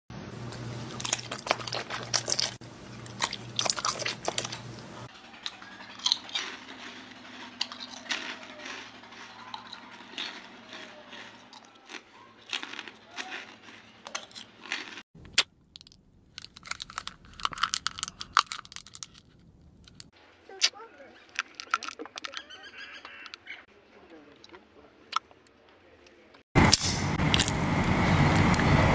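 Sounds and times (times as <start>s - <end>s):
close crunching and chewing: 0.4s - 20.2s, 21.2s - 25.3s.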